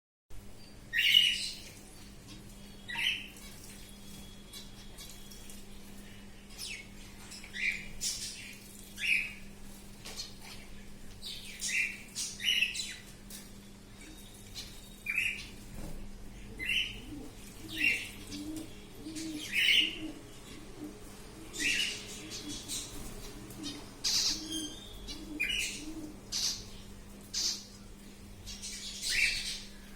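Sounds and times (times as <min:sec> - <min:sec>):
birds chirping: 0:00.6 - 0:29.9.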